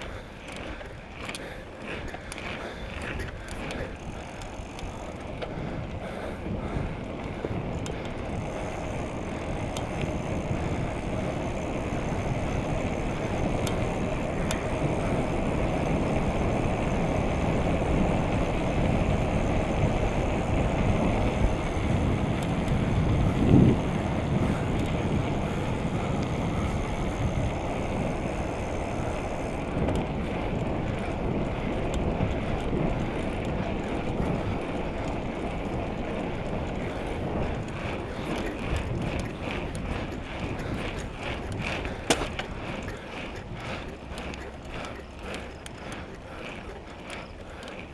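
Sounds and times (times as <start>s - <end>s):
bicycle bump: 0.0s - 47.9s
wind rushing over microphone: 0.0s - 47.9s.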